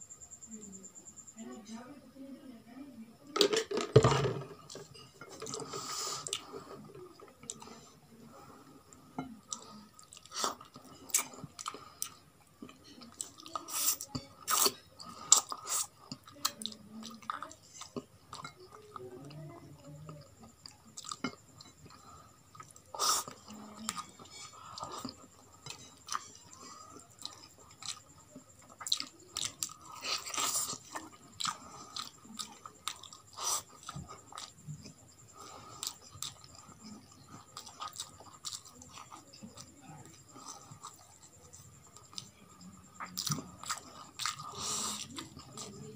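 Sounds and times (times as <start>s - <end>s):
person chewing food: 4.5s - 45.9s.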